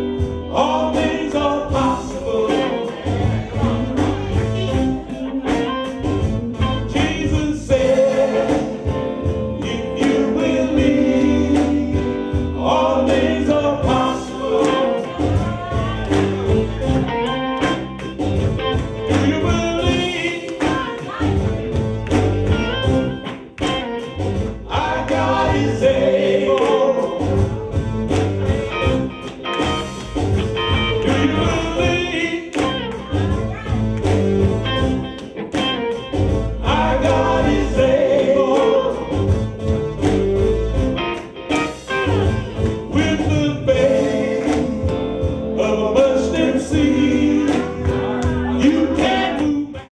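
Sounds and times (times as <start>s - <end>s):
gospel singing with band: 0.0s - 49.9s.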